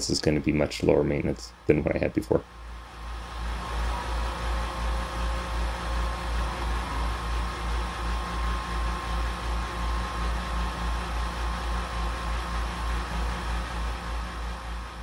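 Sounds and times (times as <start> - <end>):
mill cutting metal with whine: 2.6 - 15.0.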